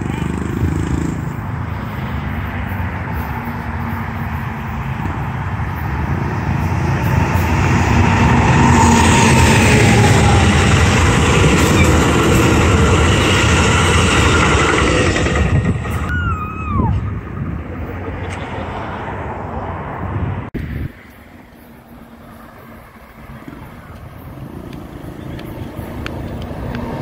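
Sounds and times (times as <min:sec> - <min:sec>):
train wheels rumbling on rails: 0:00.0 - 0:19.9, 0:20.6 - 0:27.0.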